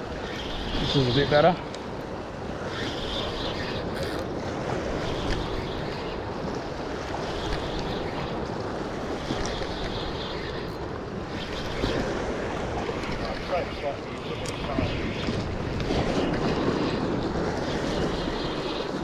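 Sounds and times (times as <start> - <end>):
fishing reel whirring: 0.0 - 19.0
surf on rocks: 0.0 - 19.0
wind buffeting microphone: 0.0 - 19.0.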